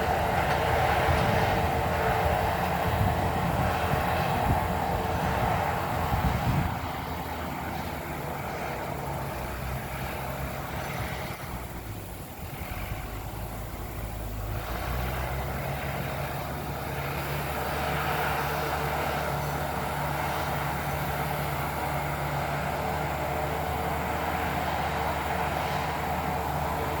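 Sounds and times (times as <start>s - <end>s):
distant heavy machine engine: 0.0s - 27.0s.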